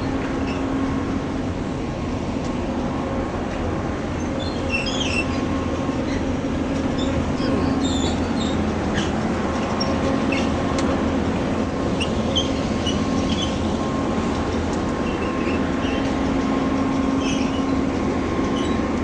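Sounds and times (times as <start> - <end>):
heavy machinery engine droning: 0.0 - 19.0.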